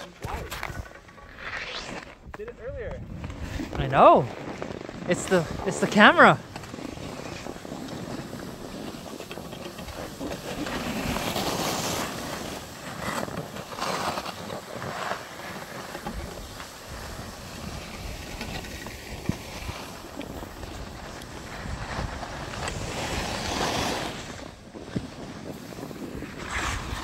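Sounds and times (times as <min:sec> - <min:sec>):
snowboard scraping over snow: 0:00.0 - 0:27.0.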